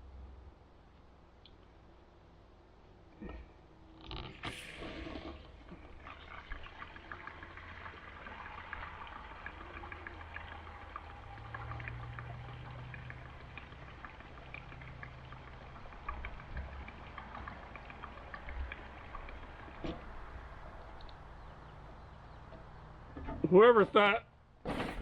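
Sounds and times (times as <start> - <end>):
gasoline trickling into a tank: 3.2 - 23.6.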